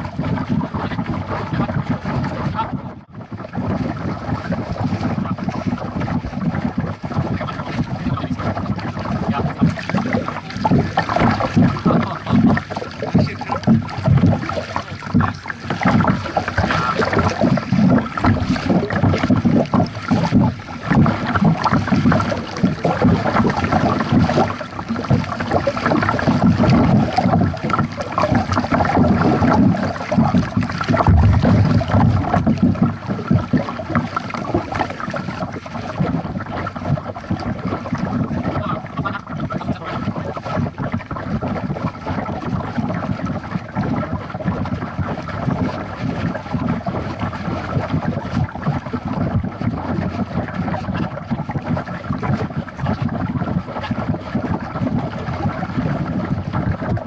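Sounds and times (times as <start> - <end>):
water splashing from paddling: 0.0 - 57.0
wind buffeting microphone: 0.0 - 57.0.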